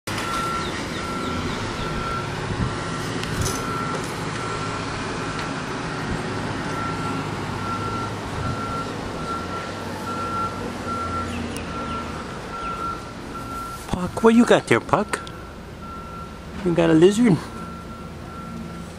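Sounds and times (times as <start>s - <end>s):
outdoor background noise: 0.0s - 18.9s
reversing alarm beeping: 0.1s - 4.9s, 6.7s - 18.9s
low engine rumble: 0.1s - 18.9s.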